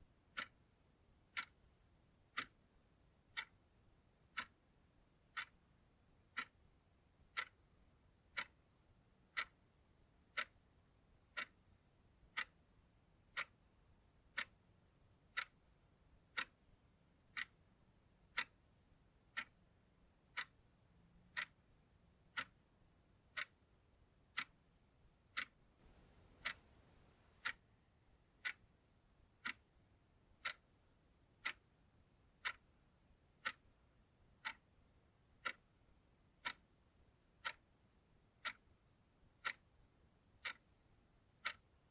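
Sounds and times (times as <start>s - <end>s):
clock ticking: 0.1s - 41.9s.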